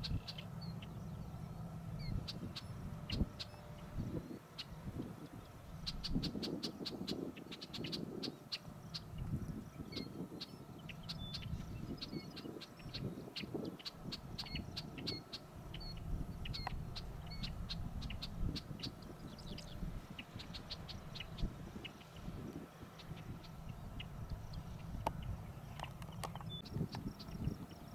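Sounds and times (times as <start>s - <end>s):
low uneven rumble: 0.0s - 6.4s, 8.0s - 27.9s
high bird chirps: 0.0s - 27.9s.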